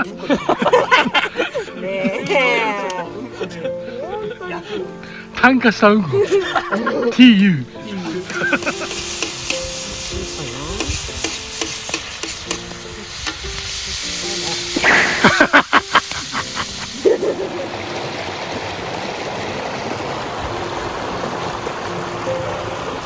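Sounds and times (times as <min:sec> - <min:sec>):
background music: 0:00.0 - 0:23.0
crackling sizzling hiss: 0:00.0 - 0:23.0
steady rushing hiss: 0:00.0 - 0:23.0.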